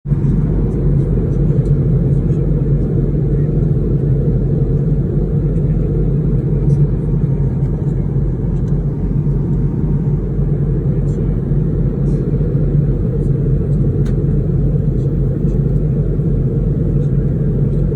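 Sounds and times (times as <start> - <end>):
airliner cabin rumble: 0.0 - 17.9.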